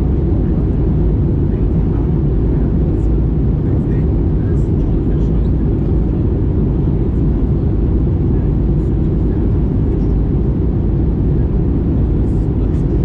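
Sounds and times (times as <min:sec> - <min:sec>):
aircraft cabin engine roar: 0:00.0 - 0:13.0.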